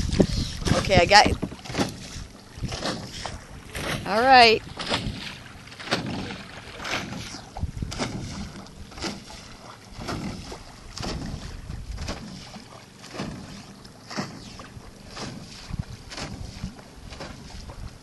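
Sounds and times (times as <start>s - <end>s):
water splashing and sloshing: 0.0s - 18.0s
wind buffeting microphone: 0.0s - 18.0s.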